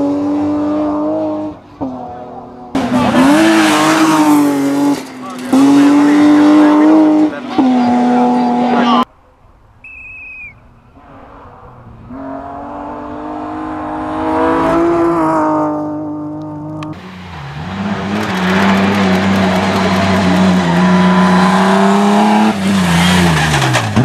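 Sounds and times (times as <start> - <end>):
rally car engine at high revs: 0.0 - 9.0, 12.1 - 24.0.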